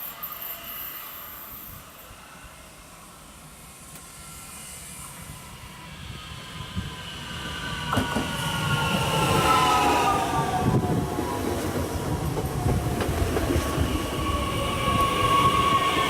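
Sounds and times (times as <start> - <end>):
train approaching: 0.0 - 16.0.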